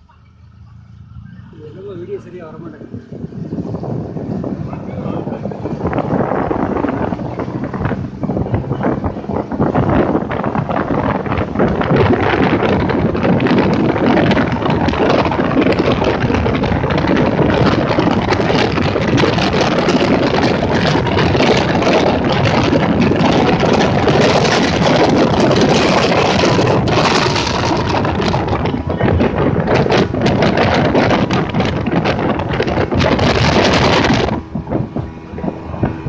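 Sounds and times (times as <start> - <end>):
motorboat engine: 0.0 - 36.0
rush of wind and water: 1.6 - 36.0.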